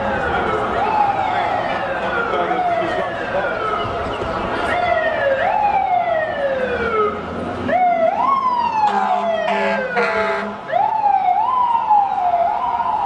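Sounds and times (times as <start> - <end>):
emergency sirens wailing: 0.0 - 13.0.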